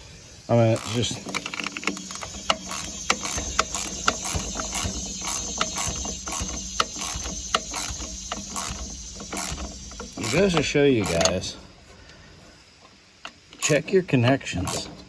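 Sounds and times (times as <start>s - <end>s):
hand ratchet clicking: 0.6s - 11.6s, 13.2s - 15.0s.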